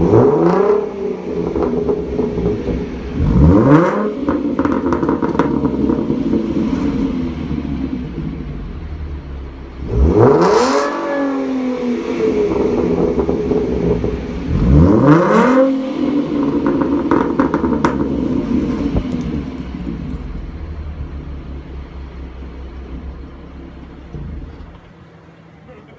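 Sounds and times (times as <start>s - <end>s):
car engine revving: 0.0s - 25.8s
exhaust crackles and pops: 0.0s - 25.9s.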